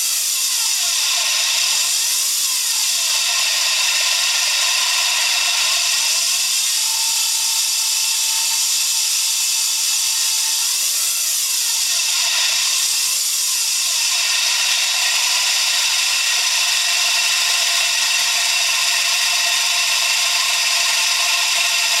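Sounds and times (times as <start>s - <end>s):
alternator whirring grinding whine: 0.0s - 22.0s.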